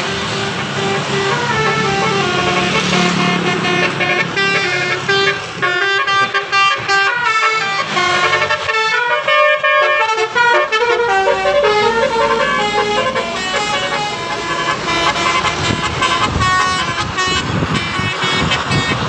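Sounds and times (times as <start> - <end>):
heavy vehicle rumbling past: 0.0 - 19.0
musical bus horn tune: 0.0 - 19.0.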